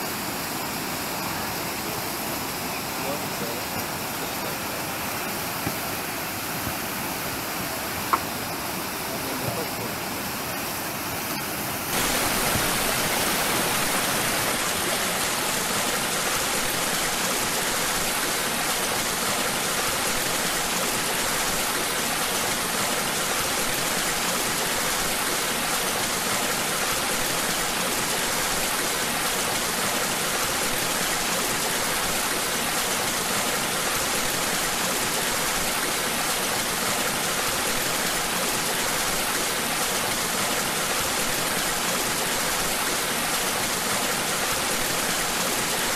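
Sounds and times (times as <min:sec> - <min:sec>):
whitewater rushing: 0:00.0 - 0:45.9.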